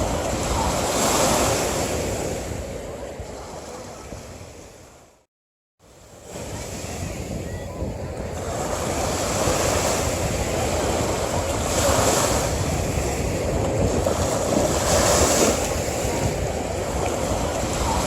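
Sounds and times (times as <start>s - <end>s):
ocean surf breaking: 0.0s - 4.9s, 6.0s - 18.0s.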